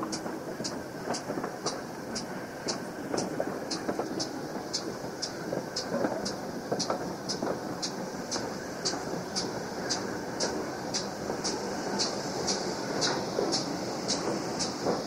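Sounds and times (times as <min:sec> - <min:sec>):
light sharp ticks: 0:00.0 - 0:14.8
train rumble: 0:00.0 - 0:15.0.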